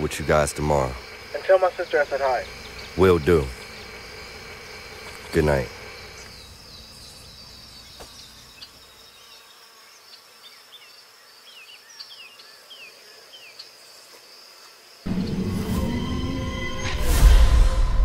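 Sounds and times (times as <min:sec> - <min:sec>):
night insects trilling: 0:00.0 - 0:17.4.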